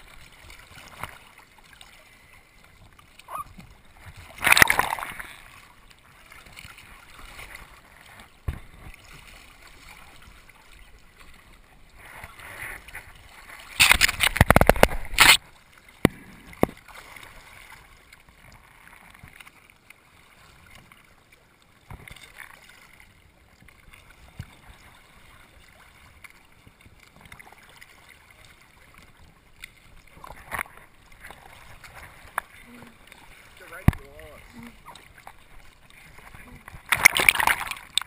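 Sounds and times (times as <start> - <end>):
sea water splashing: 0.0 - 38.0
water lapping and gurgling: 0.0 - 38.0.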